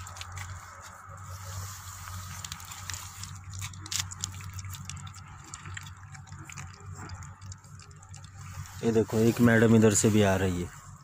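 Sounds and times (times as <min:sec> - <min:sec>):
low steady hum: 0:00.0 - 0:11.0
puppies lapping and chewing: 0:00.0 - 0:11.0.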